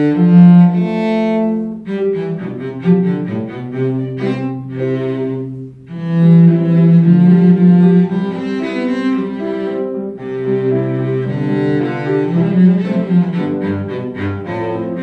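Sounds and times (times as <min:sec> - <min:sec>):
bowed cello: 0:00.0 - 0:15.0
piano accompaniment: 0:00.0 - 0:15.0.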